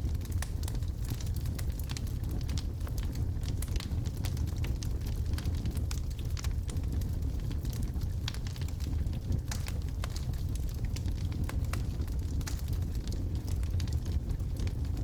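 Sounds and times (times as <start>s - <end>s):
low rumble of fire: 0.0s - 15.0s
wood fire crackling and popping: 0.0s - 15.0s.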